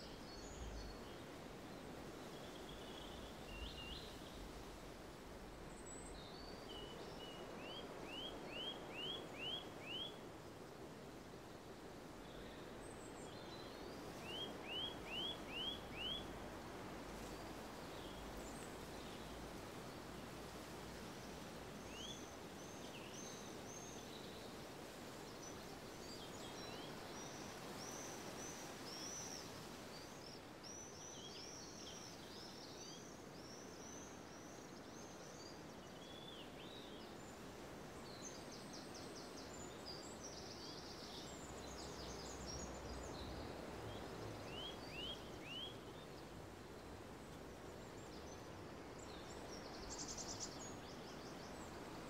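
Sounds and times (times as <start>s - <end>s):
low background hiss and rumble: 0.0s - 52.0s.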